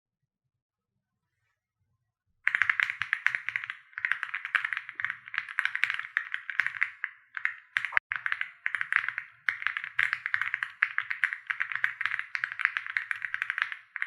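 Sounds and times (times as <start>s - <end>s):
mechanical keyboard typing: 2.5s - 14.0s.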